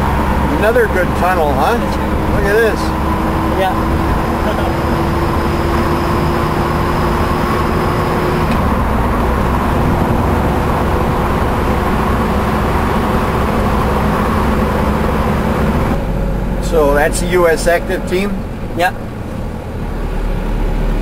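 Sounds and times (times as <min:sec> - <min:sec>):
car interior road noise: 0:00.0 - 0:21.0.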